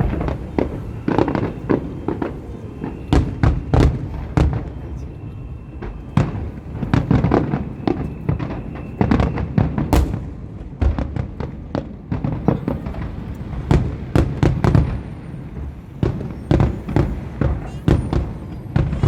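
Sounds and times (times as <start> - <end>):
fireworks bursting with booms: 0.0 - 19.0.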